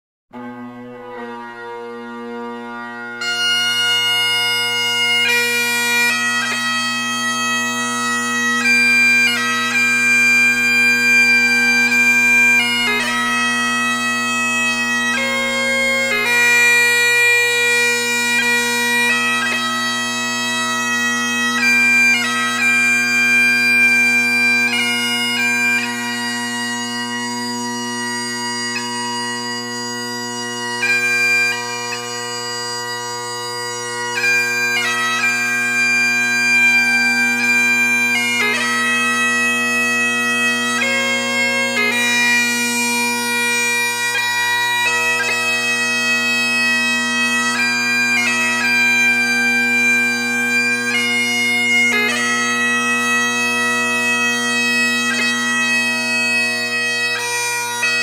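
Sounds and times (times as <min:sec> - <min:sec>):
bagpipe melody over drones: 0:00.4 - 0:58.0.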